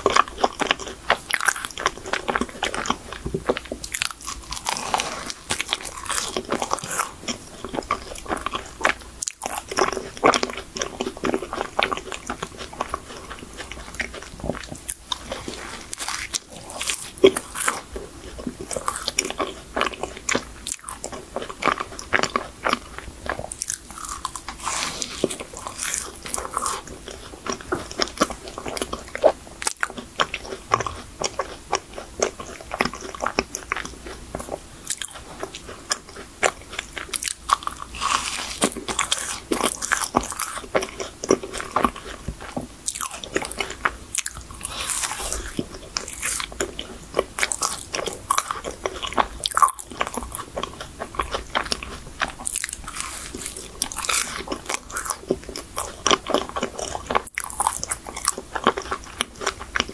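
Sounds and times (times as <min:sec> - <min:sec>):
biting and chewing pastry: 0:00.0 - 0:59.9.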